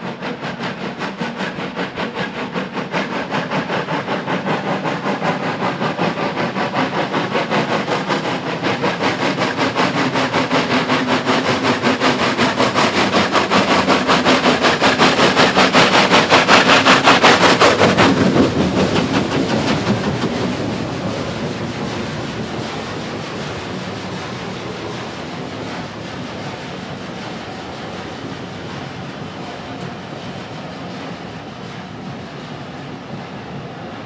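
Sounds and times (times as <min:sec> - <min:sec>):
steam locomotive exhaust beats: 0:00.0 - 0:34.0
train rumbling by: 0:00.0 - 0:34.0.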